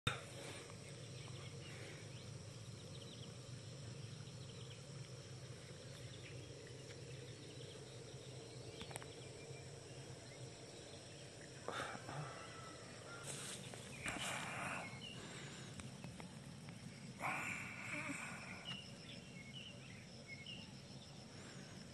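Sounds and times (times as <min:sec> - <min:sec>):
steady low hum: 0:00.1 - 0:21.9.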